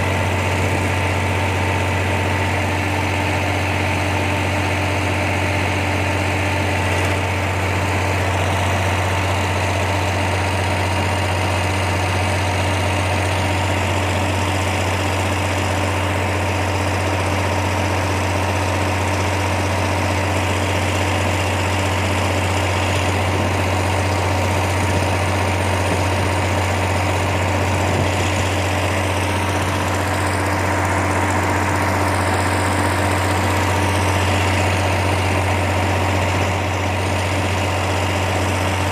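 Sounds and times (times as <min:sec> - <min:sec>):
engine humming: 0:00.0 - 0:38.9.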